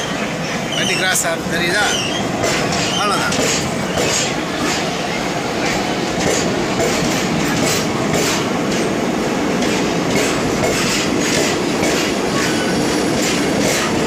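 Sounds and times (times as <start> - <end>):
train rumbling: 0.0 - 14.0
wheels clacking over rail joints: 0.0 - 14.0.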